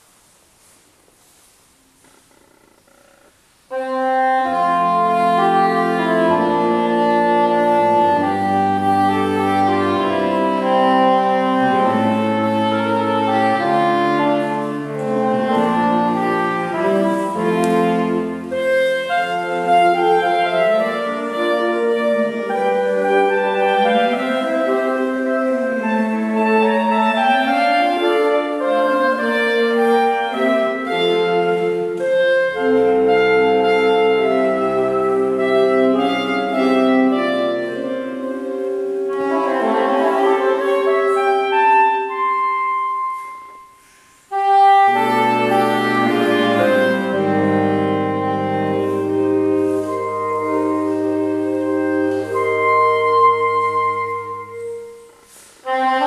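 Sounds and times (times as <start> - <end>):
saxophone quartet playing: 3.1 - 56.0.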